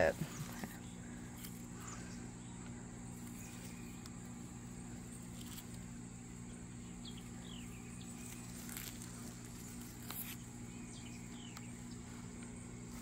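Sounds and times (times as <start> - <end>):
insects droning: 0.0 - 13.0
steady low hum: 0.0 - 13.0.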